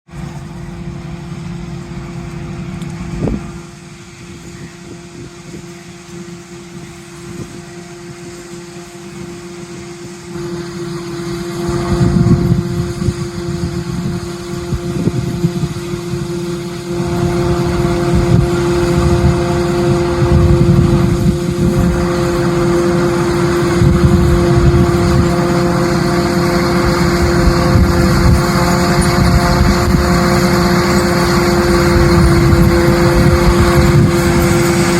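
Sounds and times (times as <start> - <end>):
machinery whine: 0.0 - 34.9
tractor engine hum: 0.0 - 34.9.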